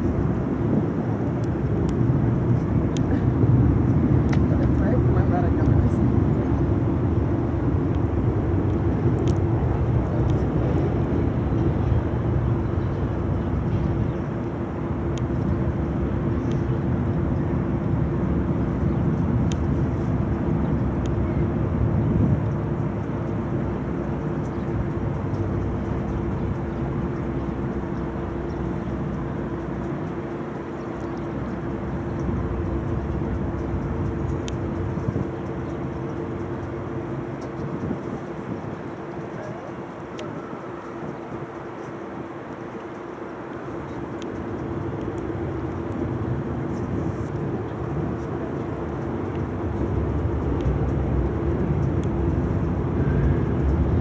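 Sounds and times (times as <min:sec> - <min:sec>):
boat engine humming: 0:00.0 - 0:54.0
low rushing water: 0:00.0 - 0:54.0.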